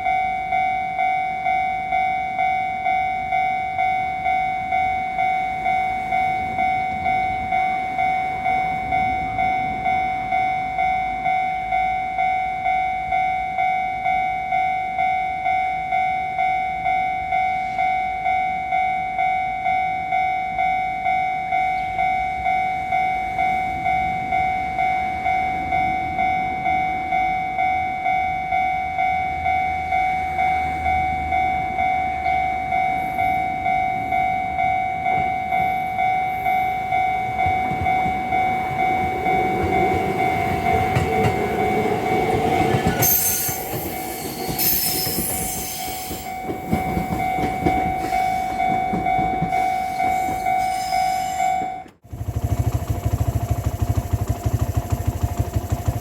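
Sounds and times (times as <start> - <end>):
level crossing warning bell: 0.0 - 56.0
train rumbling: 0.0 - 56.0.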